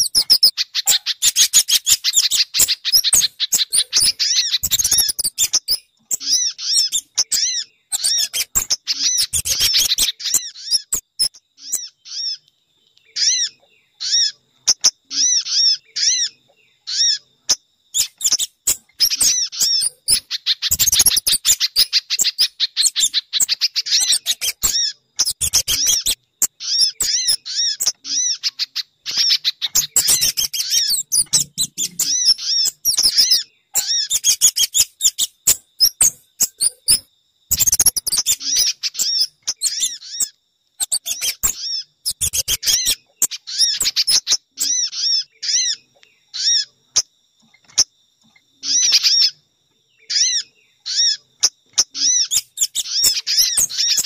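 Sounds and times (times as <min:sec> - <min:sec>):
high songbird chirps: 0:00.0 - 0:54.0.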